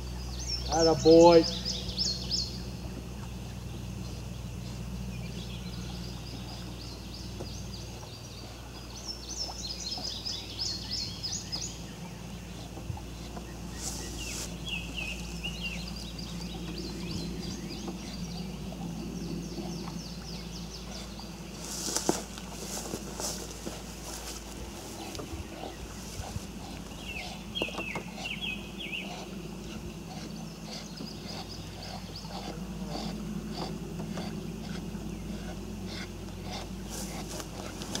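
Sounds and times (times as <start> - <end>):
birds chirping and trilling: 0.0 - 38.0
low background hum: 0.0 - 38.0.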